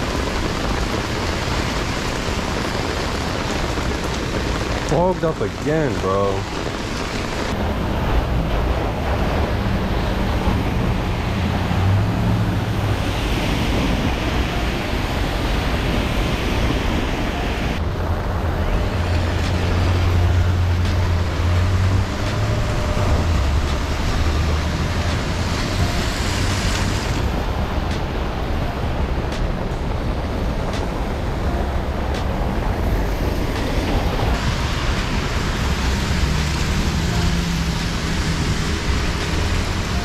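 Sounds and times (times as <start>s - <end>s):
car engines rumbling: 0.0s - 40.0s
steady rain: 0.0s - 40.0s.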